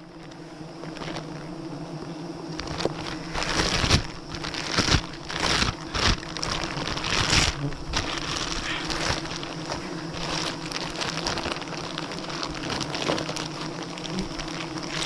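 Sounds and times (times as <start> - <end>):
swarm of bees humming: 0.0 - 15.0
rustling crunching swishes: 2.6 - 15.0.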